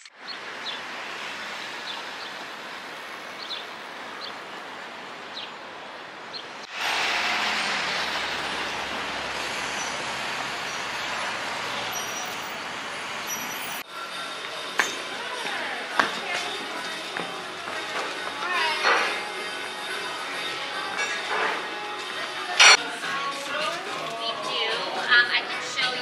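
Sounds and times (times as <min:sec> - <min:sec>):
passing cars: 0:00.2 - 0:24.0
heavy vehicles rumbling: 0:00.2 - 0:26.0.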